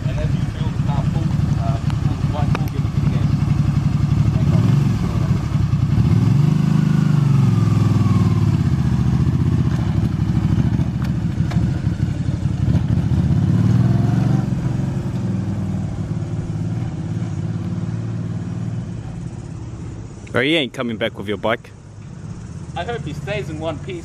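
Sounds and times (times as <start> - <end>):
motorcycle engine accelerating: 0.0 - 20.2.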